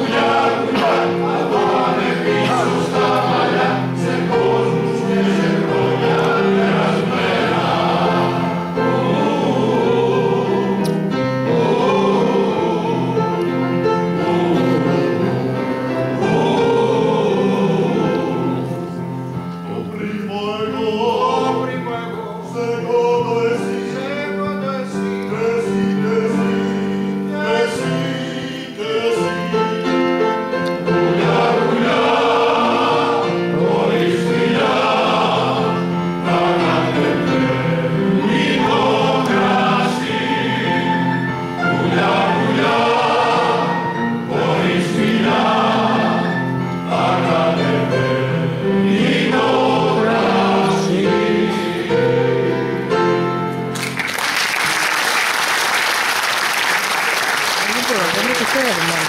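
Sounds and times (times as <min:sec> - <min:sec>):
men's choir singing: 0:00.0 - 0:53.4.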